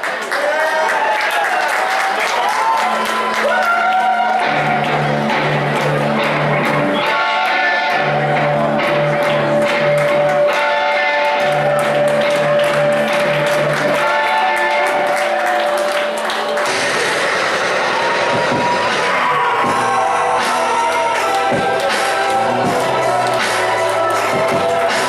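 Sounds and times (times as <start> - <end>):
guitar-led rock music over speakers: 3.8 - 25.0.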